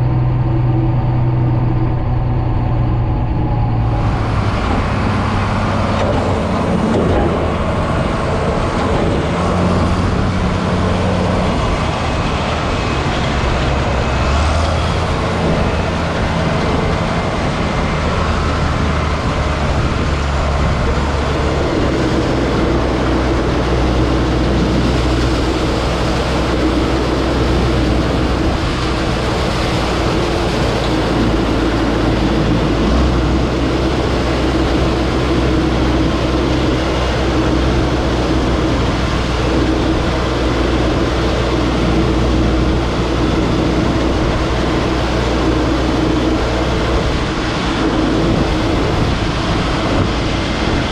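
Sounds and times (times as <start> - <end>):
combine harvester droning: 0.0 - 50.9.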